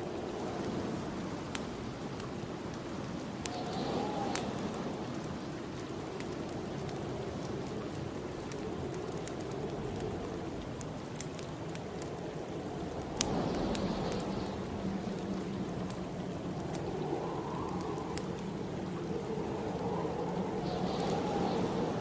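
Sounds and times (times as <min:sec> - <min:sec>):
rushing wind: 0:00.0 - 0:22.0
wood fire crackling and popping: 0:00.0 - 0:22.0.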